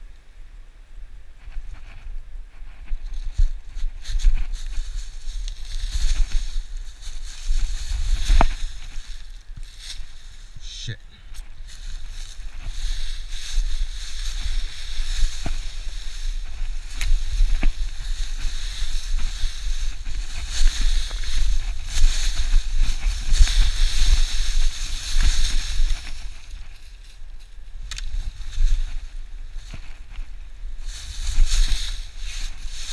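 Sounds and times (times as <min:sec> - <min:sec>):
steady low rumble: 0:00.0 - 0:32.9
footsteps crunching through dry leaves: 0:01.5 - 0:32.9.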